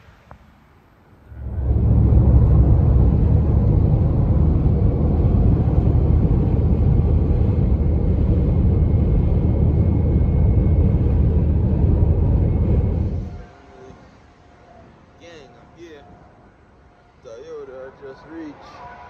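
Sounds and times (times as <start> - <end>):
car cabin road noise: 0.0 - 19.0.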